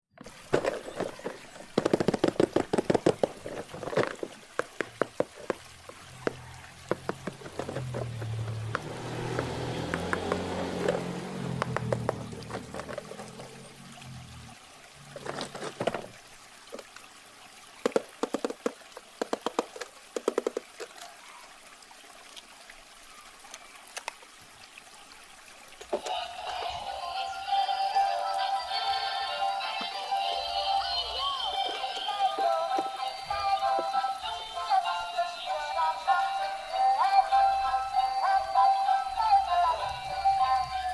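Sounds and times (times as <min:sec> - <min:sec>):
water pouring and trickling: 0:00.1 - 0:40.9.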